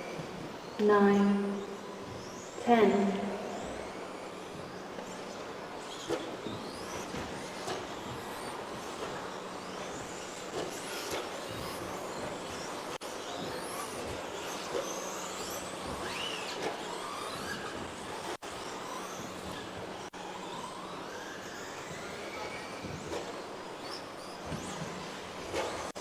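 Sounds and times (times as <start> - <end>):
electric rc truck motors whining: 1.7 - 26.0.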